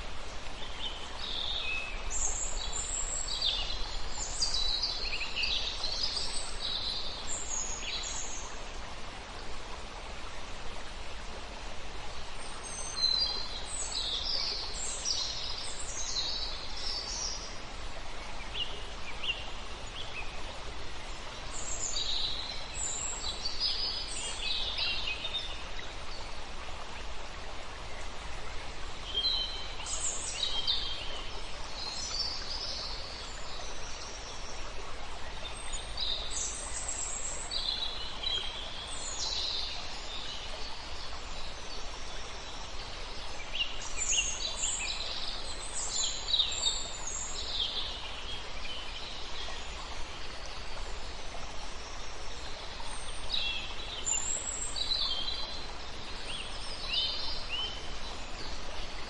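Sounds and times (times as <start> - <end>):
songbirds chirping: 0.0 - 59.0
stream rushing: 0.0 - 59.0.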